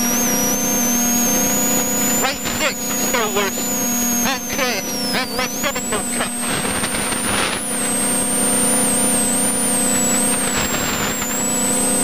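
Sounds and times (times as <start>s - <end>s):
high-pitched intercom whine: 0.0s - 12.0s
rally car engine running: 0.0s - 12.0s.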